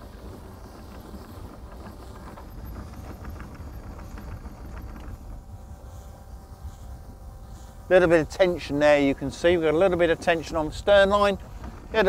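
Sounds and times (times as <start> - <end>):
windlass low rumble: 0.0 - 12.0.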